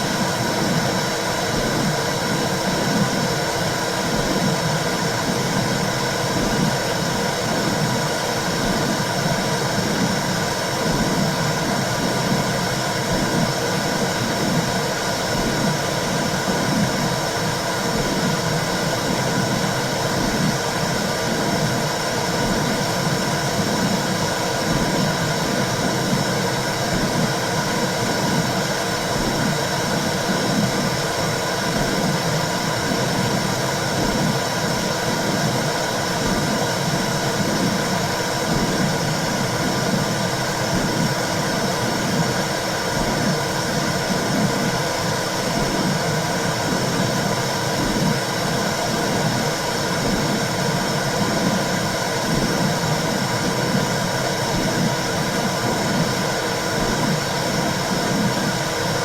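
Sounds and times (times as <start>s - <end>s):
low regular pulsing: 0.0s - 59.0s.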